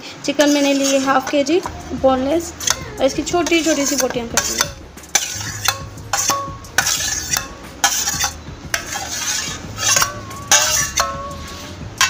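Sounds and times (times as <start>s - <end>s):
spatula clinking and scraping bowls: 0.3s - 12.0s.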